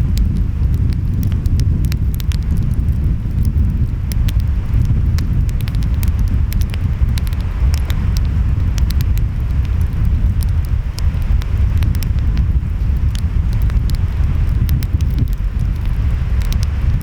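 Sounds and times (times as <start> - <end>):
wind: 0.0 - 17.0
wood fire crackling: 0.0 - 17.0.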